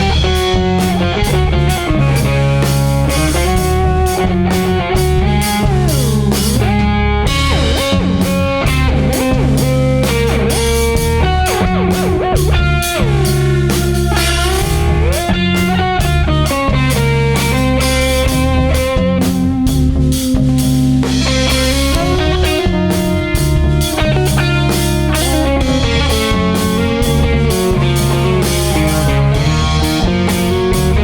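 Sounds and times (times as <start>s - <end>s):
baritone guitar: 0.0s - 19.7s, 21.1s - 31.0s
bluesy rock band playing: 0.0s - 31.0s
drum kit: 0.0s - 31.0s.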